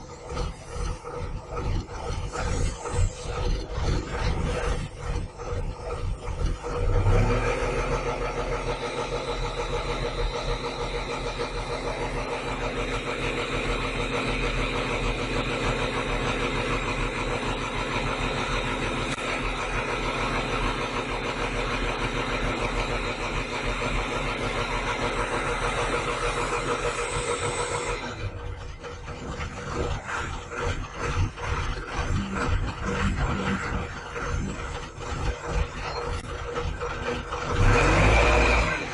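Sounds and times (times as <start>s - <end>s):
crane diesel engine running: 0.0s - 38.9s.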